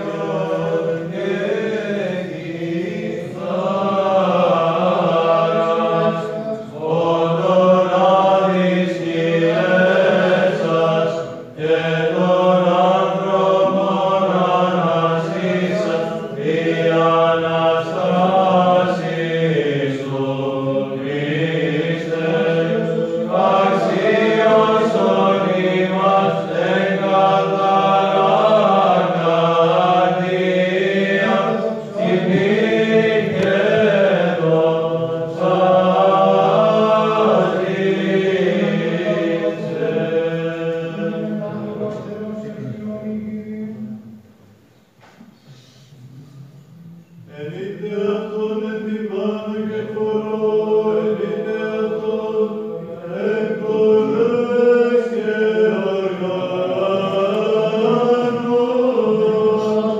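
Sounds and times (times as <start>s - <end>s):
choir singing slow chant: 0.0s - 44.6s, 45.4s - 59.9s.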